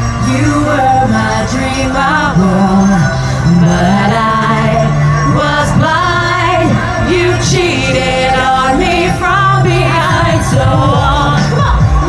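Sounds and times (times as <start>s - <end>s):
eurodance backing track: 0.0s - 12.0s
woman singing: 0.1s - 12.0s.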